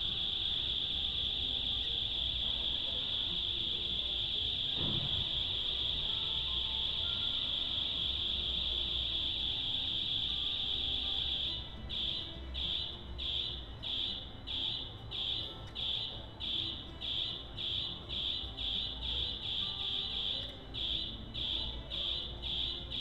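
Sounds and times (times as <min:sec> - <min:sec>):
piezo buzzer beeping: 0:00.0 - 0:23.0.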